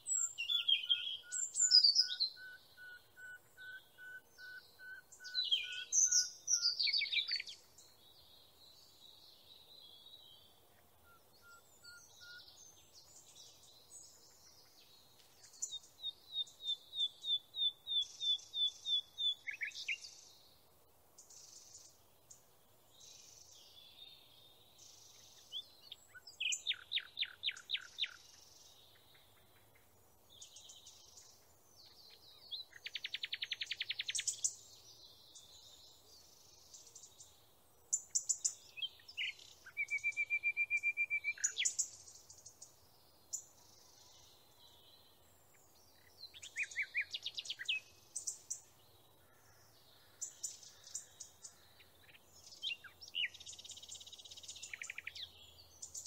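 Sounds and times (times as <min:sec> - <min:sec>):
faint steady hiss: 0:00.0 - 0:56.0
songbirds singing: 0:00.0 - 0:56.0.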